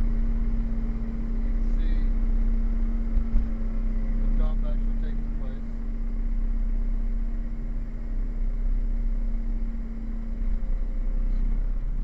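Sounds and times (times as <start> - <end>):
diesel engine drone in cab: 0.0 - 12.0.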